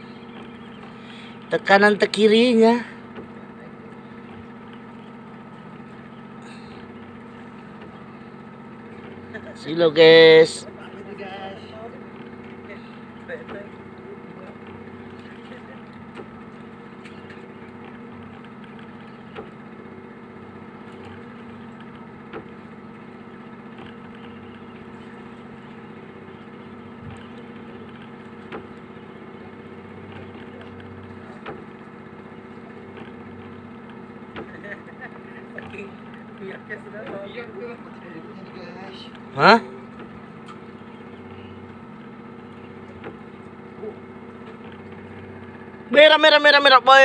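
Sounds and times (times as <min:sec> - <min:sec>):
small engine humming: 0:00.0 - 0:47.0.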